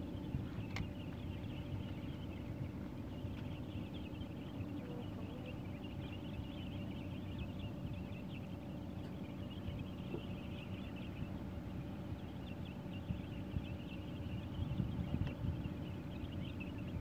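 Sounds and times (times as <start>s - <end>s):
faint hum: 0.0s - 17.0s
small birds chirping: 0.0s - 17.0s.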